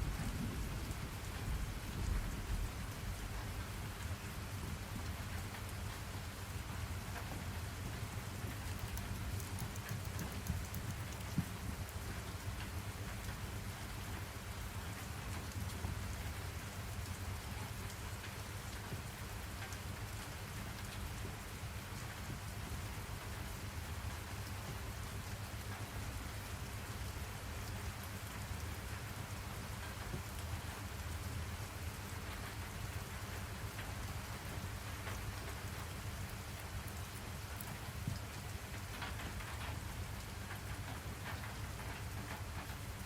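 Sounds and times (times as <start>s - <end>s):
steady rain hiss: 0.0s - 43.0s.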